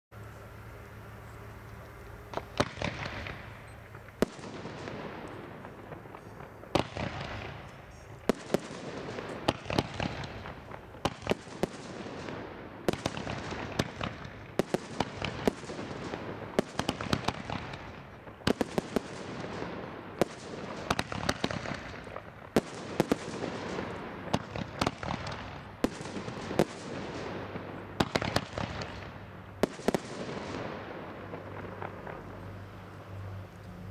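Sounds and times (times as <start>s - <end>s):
firework bangs: 2.3s - 32.9s.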